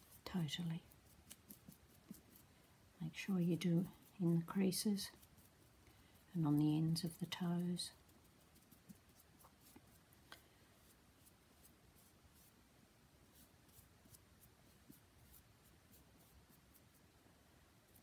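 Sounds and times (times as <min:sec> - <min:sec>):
paintbrush dabbing scratchy strokes: 0:00.0 - 0:18.0.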